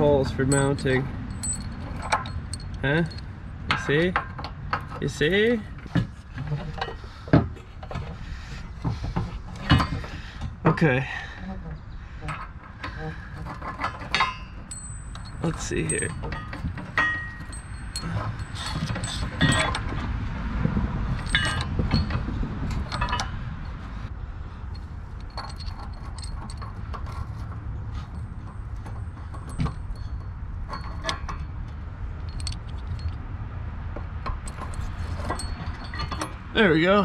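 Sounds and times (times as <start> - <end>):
metal bolts clinking and rattling: 0.0 - 8.2, 8.8 - 11.0, 12.2 - 24.0, 24.7 - 33.3, 33.9 - 37.0
steady low rumble: 0.0 - 36.8.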